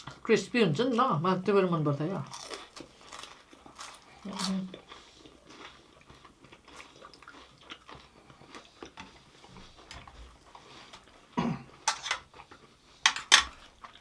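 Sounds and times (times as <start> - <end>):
soft chewing: 2.1 - 14.0.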